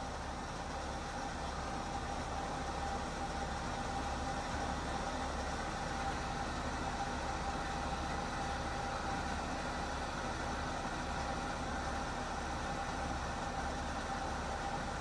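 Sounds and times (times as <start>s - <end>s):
truck engine hum: 0.0s - 15.0s.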